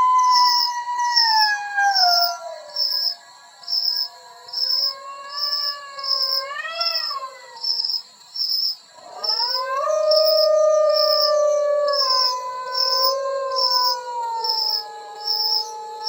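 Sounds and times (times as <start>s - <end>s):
dog howling: 0.0s - 2.8s, 4.2s - 7.6s, 9.0s - 16.0s
insect chirping: 0.0s - 16.0s.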